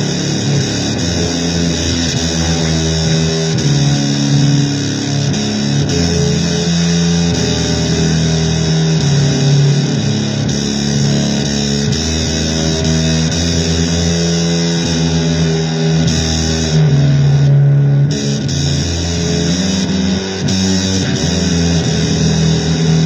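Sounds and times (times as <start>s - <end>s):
electric guitar playing blues: 0.0s - 23.0s.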